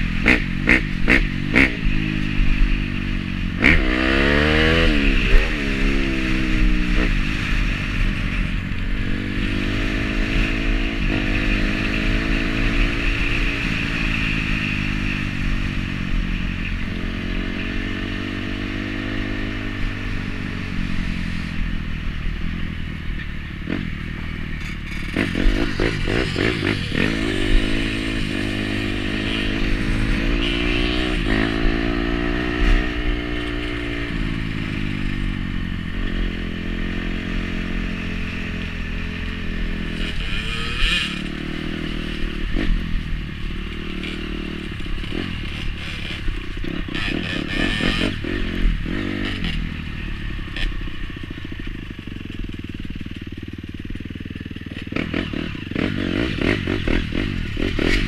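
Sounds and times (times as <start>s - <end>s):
dirt bike engine revving: 0.0s - 21.7s, 23.6s - 58.0s.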